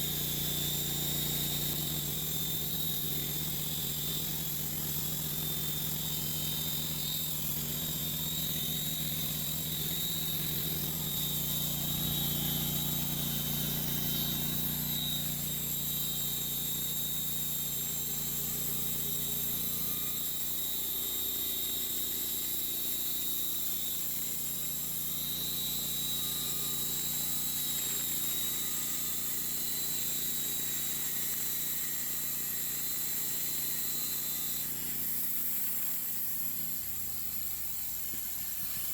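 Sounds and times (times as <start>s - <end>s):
high whine: 0.0s - 34.8s
sawmill engine running: 0.0s - 38.9s.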